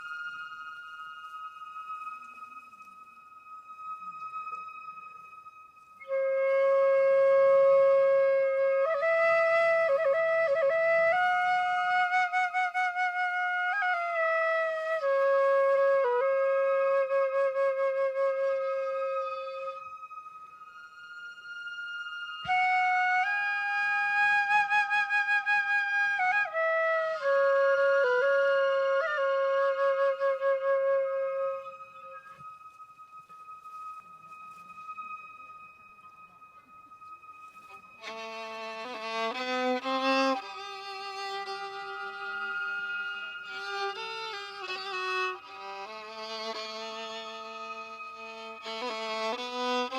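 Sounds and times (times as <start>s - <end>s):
slow flute melody: 0.0s - 49.9s.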